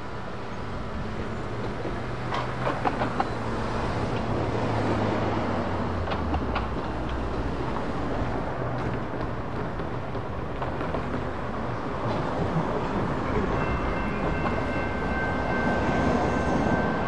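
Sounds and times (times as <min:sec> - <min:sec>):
tyres clicking over rails: 0:01.1 - 0:17.0.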